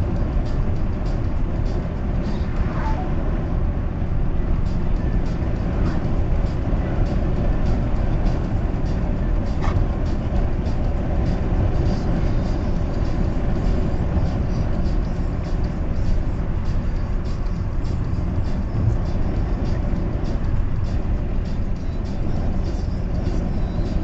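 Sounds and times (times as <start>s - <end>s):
road and engine noise inside car: 0.0s - 24.0s.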